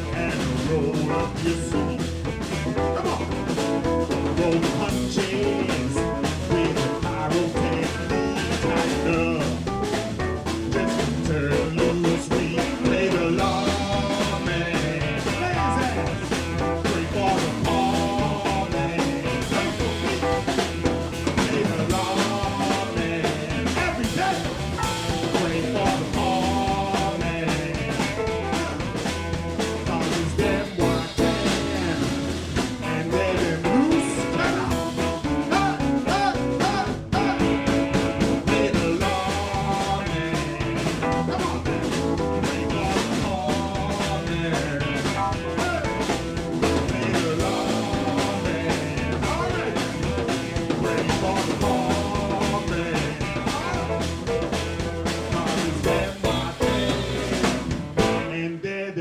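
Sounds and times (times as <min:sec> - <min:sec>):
blues band playing: 0:00.0 - 0:58.6.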